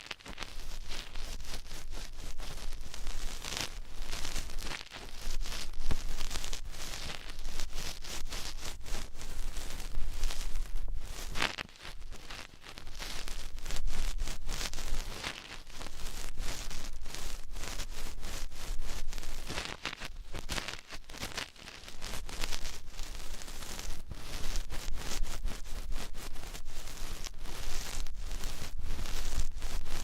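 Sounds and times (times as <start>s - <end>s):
ear-cleaning tools scratching: 0.0s - 30.0s.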